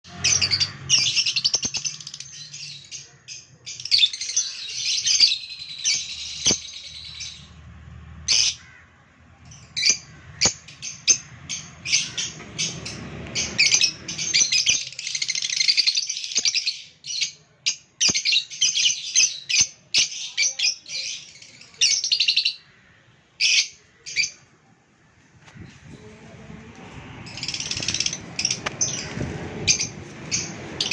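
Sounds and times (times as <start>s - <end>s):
small birds chirping: 0.0s - 26.2s, 26.8s - 30.9s.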